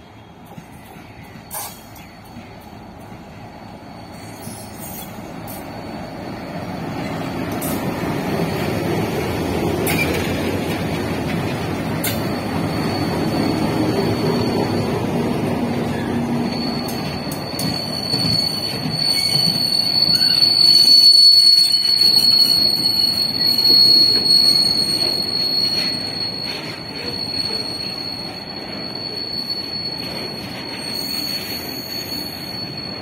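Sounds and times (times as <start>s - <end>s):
thin high wheel squeal: 0.6s - 33.0s.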